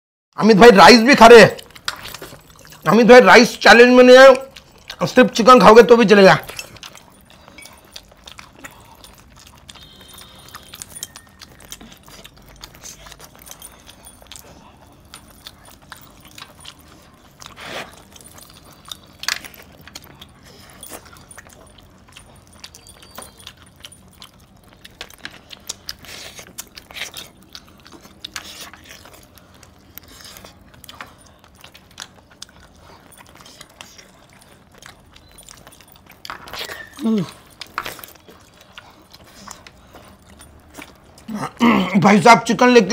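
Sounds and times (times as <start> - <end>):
faint chewing: 0.4 - 42.9
metal jewelry clinking: 1.6 - 3.0, 6.0 - 26.1, 26.7 - 41.5.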